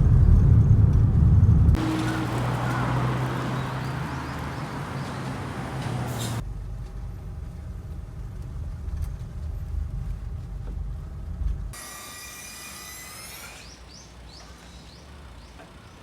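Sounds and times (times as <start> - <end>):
vehicle engine rumbling: 0.0 - 11.8, 13.8 - 16.0.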